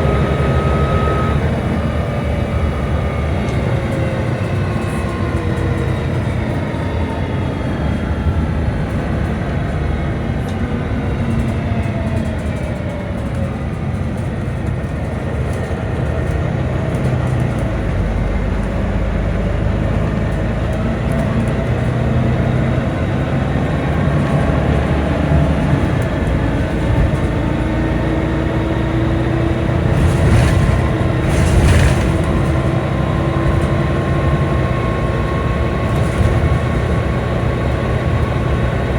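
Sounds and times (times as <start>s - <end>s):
bus drivetrain whining: 0.0s - 38.9s.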